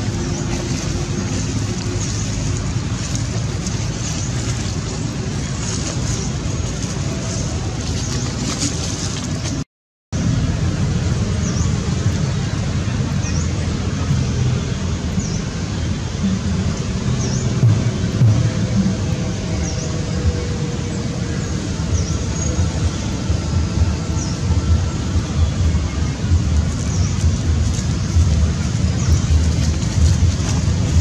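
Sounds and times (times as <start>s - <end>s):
loud outdoor rumble and hiss: 0.0s - 31.0s.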